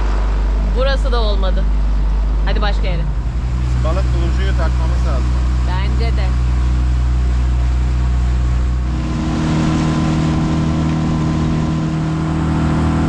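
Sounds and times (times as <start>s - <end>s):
motorboat engine running: 0.0s - 13.0s
water rushing along hull: 0.0s - 13.0s.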